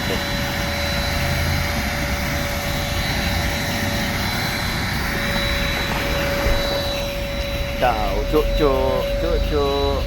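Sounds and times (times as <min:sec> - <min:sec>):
car wash machine whine and hiss: 0:00.0 - 0:10.0.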